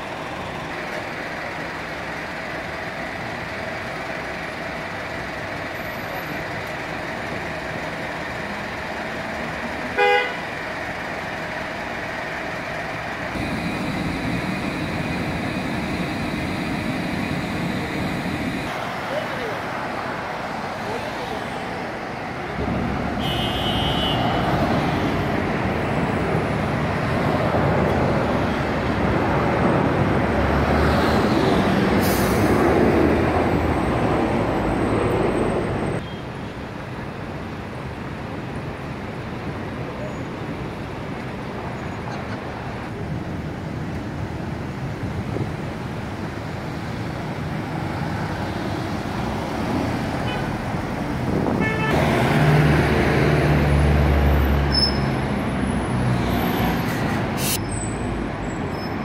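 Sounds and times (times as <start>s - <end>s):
traffic passing: 0.0s - 59.0s.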